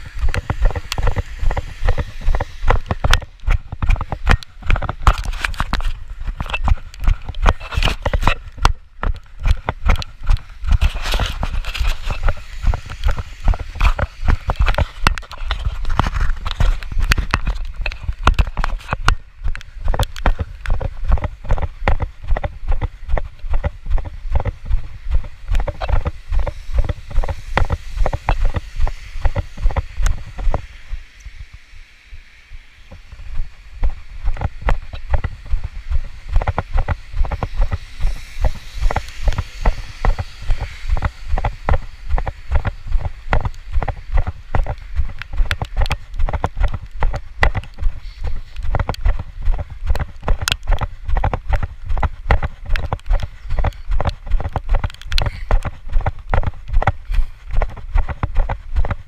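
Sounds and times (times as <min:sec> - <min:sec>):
footsteps on wet pavement: 0:00.0 - 0:59.0.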